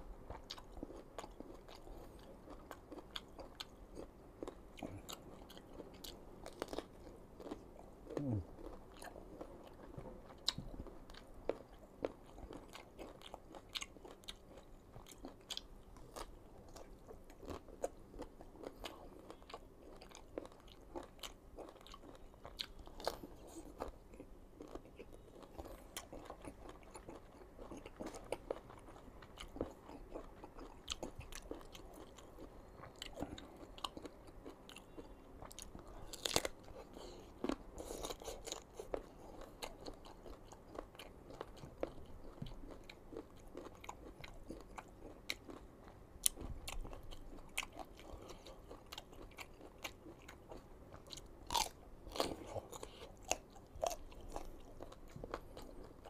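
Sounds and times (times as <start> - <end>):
chewing crisp mango: 0.2 - 56.0.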